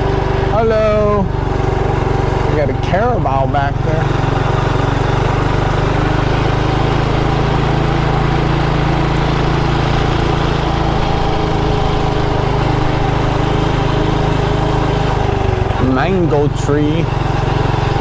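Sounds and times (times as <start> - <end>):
motorbike engine running: 0.0 - 18.0.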